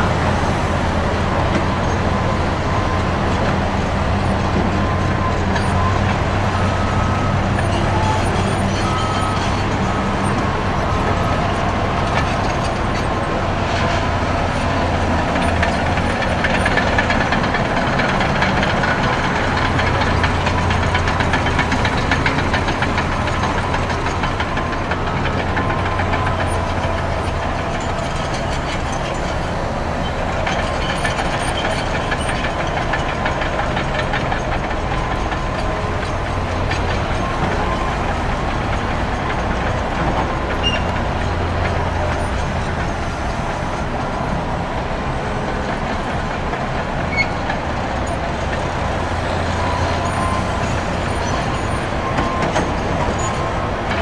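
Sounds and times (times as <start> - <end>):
diesel dozer engine running: 0.0 - 54.0
heavy motorway traffic: 0.0 - 54.0
steel tracks clattering: 0.0 - 54.0.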